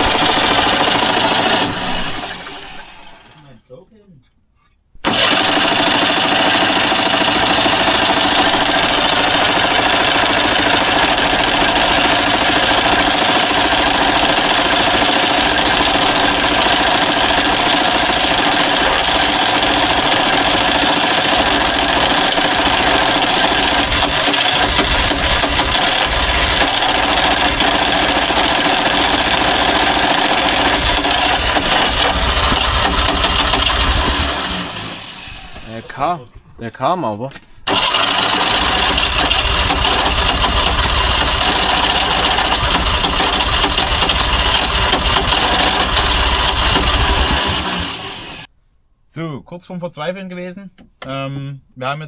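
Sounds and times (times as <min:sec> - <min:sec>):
car engine turning over: 0:00.0 - 0:03.4, 0:05.0 - 0:36.0, 0:37.6 - 0:48.5.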